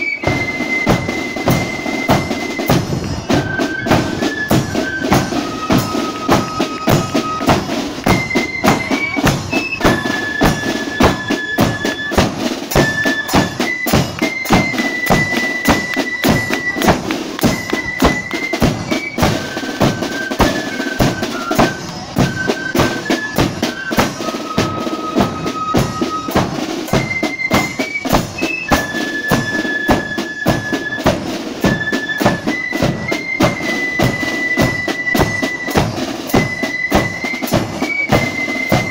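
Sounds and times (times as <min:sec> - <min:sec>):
side drums rattling: 0:00.0 - 0:38.9
wind instrument melody: 0:00.0 - 0:38.9.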